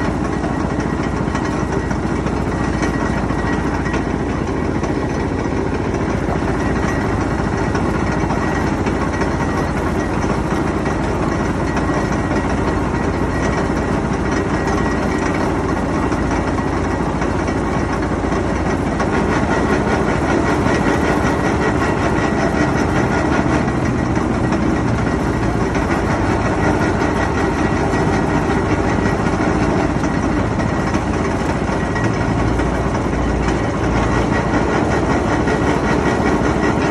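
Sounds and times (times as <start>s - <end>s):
sugarcane juicer running: 0.0s - 36.9s.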